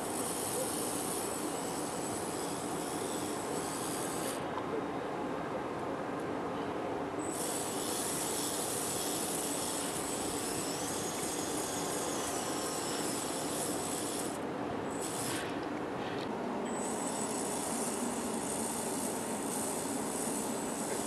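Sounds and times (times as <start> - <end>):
small electric motor whirring: 0.0 - 4.4, 7.2 - 15.6, 16.7 - 21.0.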